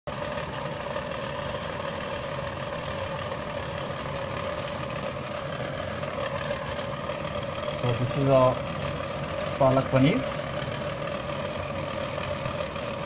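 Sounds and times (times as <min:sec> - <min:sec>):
mechanical drone: 0:00.1 - 0:13.0.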